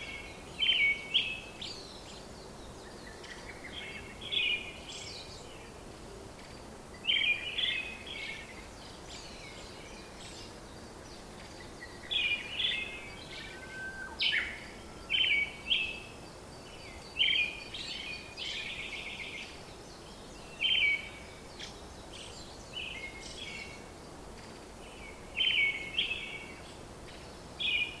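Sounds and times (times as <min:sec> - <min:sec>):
songbirds chirping: 0:00.0 - 0:28.0
steady background hiss: 0:00.0 - 0:28.0.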